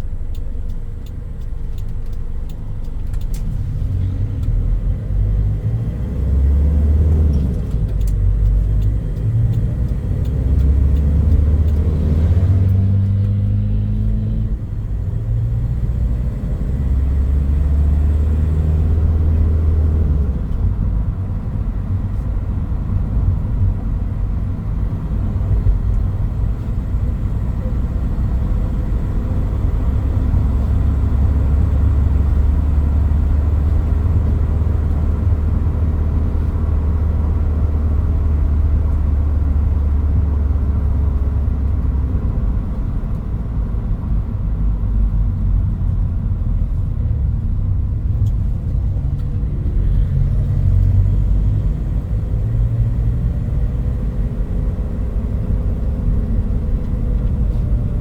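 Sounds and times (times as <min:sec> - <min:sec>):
pickup engine rumble: 0:00.0 - 0:58.0.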